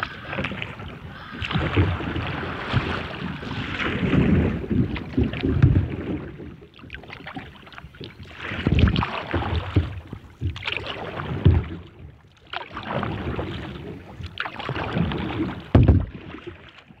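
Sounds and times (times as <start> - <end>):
paddle splashing in water: 0.0 - 17.0.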